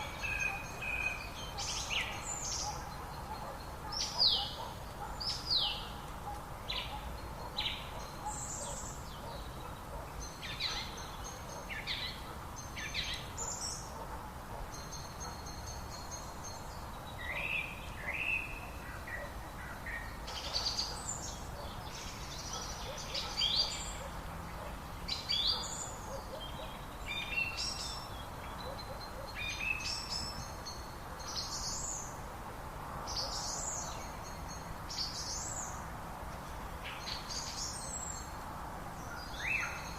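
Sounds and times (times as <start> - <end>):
birds singing and chirping: 0.0 - 32.3, 33.0 - 39.9
low background hiss: 0.0 - 39.9.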